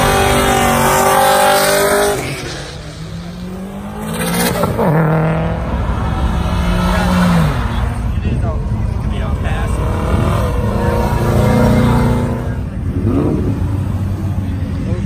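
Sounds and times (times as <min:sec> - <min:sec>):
cars accelerating past: 0:00.0 - 0:15.0.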